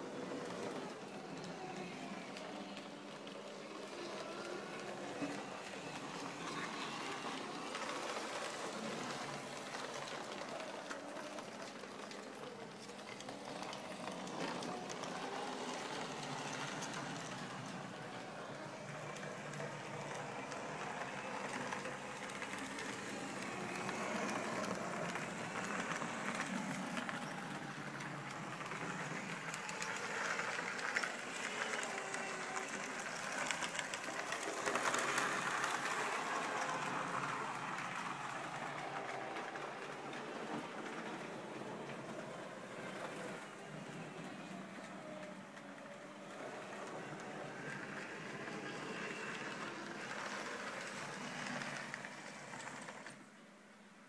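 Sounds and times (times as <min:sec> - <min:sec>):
train wheels on rails: 0:00.0 - 0:53.4
model train motor whirring: 0:00.1 - 0:41.2, 0:46.8 - 0:53.3.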